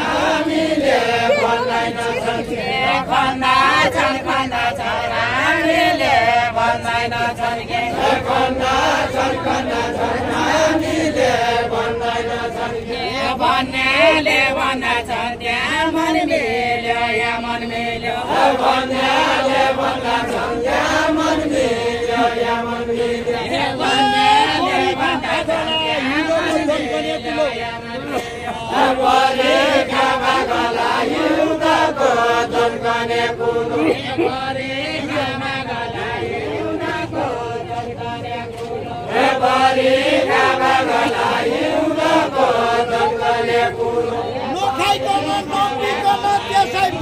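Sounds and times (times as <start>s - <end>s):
people singing a folk song: 0.0s - 47.0s.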